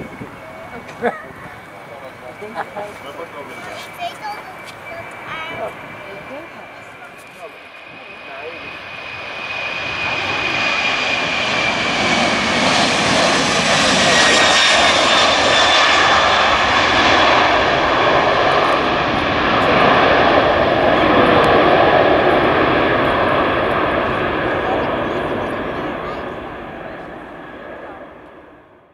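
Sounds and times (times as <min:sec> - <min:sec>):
high engine whine: 0:00.0 - 0:28.9
jet engines at takeoff: 0:00.0 - 0:28.9.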